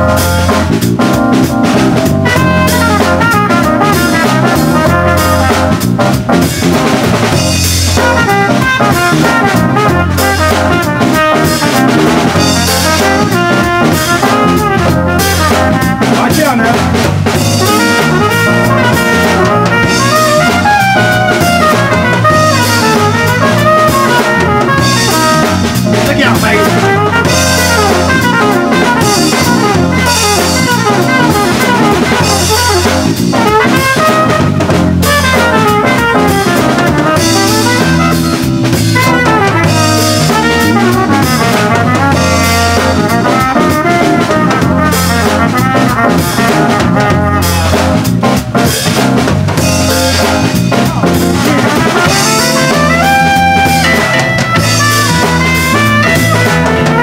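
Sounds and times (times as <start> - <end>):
bass line: 0.0 - 57.0
drum kit with cymbals: 0.0 - 57.0
jazz trumpet solo: 0.0 - 57.0.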